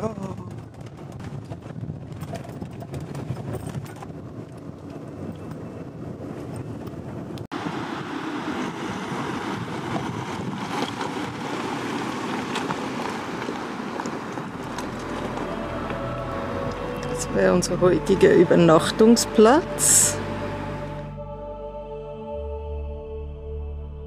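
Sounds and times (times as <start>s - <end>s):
wind noise on microphone: 0.0s - 20.9s
vehicle engine rumble: 0.0s - 22.0s.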